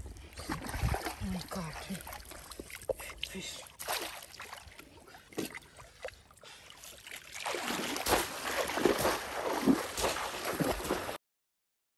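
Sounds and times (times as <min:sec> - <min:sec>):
wading splashes in muddy water: 0:00.0 - 0:11.2.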